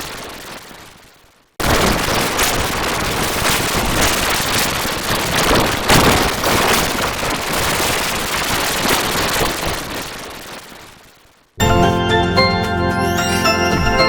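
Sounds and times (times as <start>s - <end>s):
distorted digital noise crackling: 0.0s - 11.5s.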